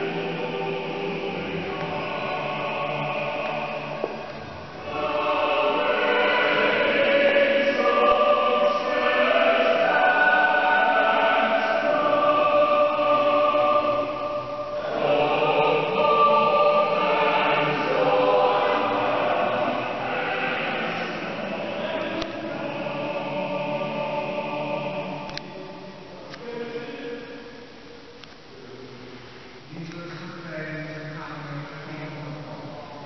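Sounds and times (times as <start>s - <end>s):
choir singing sustained chords: 0.0s - 29.7s.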